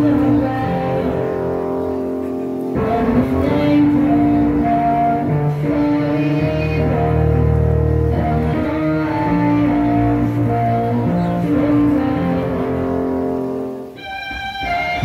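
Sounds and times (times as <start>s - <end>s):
bowed strings holding long notes: 0.0s - 15.0s.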